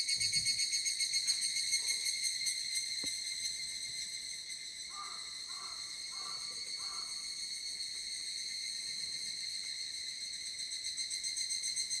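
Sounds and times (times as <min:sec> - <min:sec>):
cicadas ringing drone: 0:00.0 - 0:12.0.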